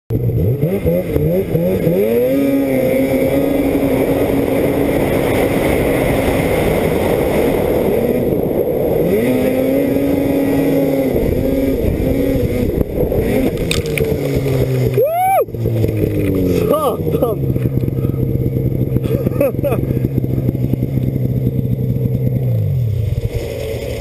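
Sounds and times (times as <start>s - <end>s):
snowmobile engine revving: 0.1s - 24.0s.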